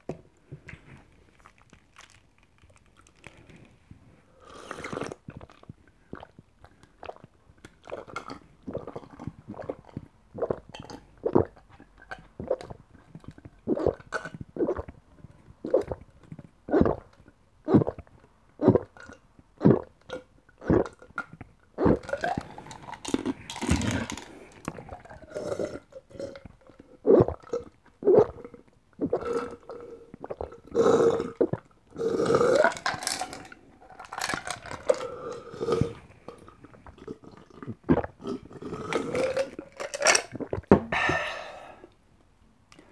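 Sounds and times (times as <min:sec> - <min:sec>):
burp-like gulps: 0:04.4 - 0:41.2
person gulping a drink: 0:04.4 - 0:42.0.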